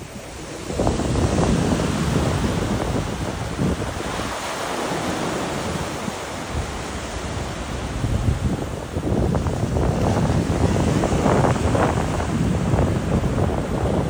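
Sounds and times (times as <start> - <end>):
ocean waves washing ashore: 0.0 - 14.0
wind buffeting microphone: 0.0 - 14.0.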